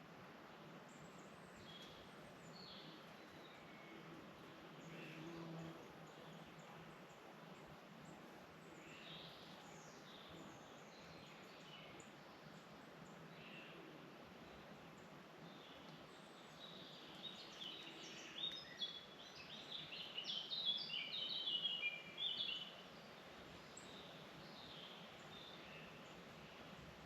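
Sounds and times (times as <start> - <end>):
faint background hiss: 0.0 - 27.0
songbird chirping: 0.8 - 27.0.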